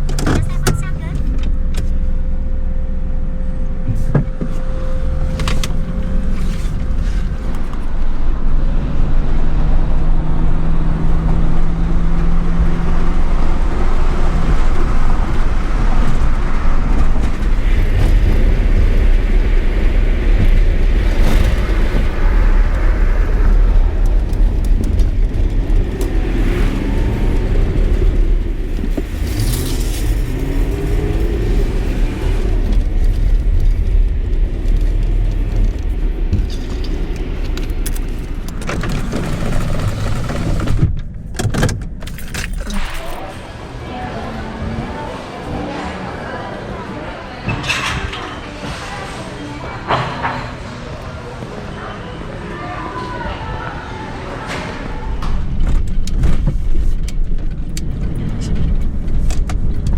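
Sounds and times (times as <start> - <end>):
engine tones rising and falling: 0.0 - 56.3
car interior road noise: 0.0 - 59.9.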